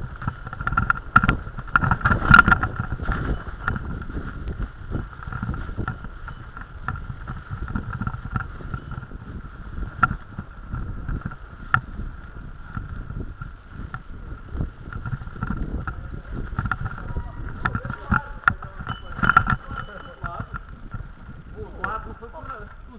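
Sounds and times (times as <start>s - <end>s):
bike tyres rumbling on dirt trail: 0.0s - 22.9s
wind on microphone: 0.0s - 22.9s.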